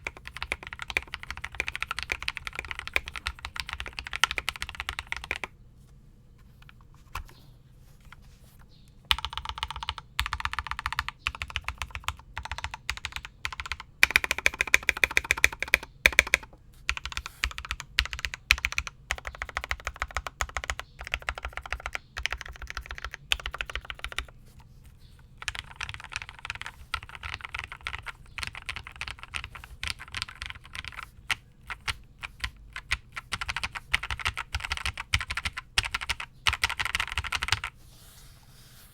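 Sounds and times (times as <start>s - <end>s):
mechanical keyboard typing: 0.0s - 5.5s, 9.1s - 24.3s, 25.4s - 37.7s.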